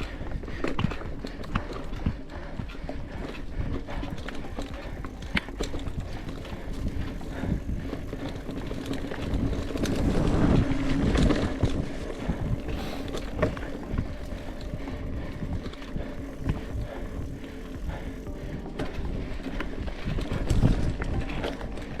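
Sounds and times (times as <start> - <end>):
bike rattling: 0.0 - 22.0
bike tyres rumbling on dirt: 0.0 - 22.0
wind on microphone: 0.0 - 22.0.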